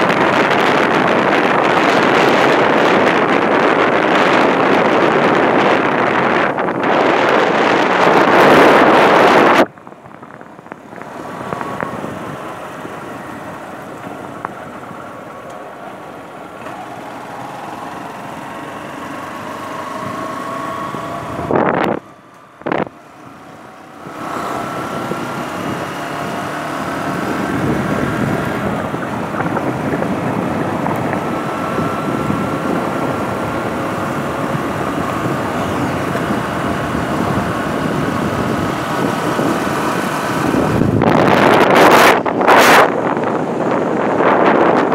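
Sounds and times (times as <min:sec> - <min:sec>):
vehicle engine and road noise: 0:00.0 - 0:44.9
wind rushing across microphone: 0:00.0 - 0:44.9.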